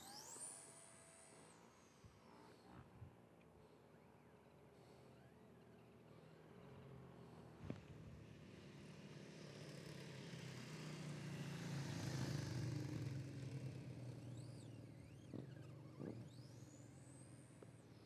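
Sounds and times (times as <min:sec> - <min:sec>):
small motorcycles passing by: 0:00.0 - 0:02.8, 0:04.3 - 0:18.0.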